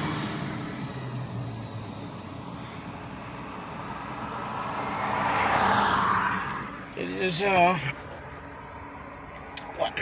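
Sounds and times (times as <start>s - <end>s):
vehicle passing: 0.0s - 9.3s
road noise rumble and hiss: 0.0s - 10.0s.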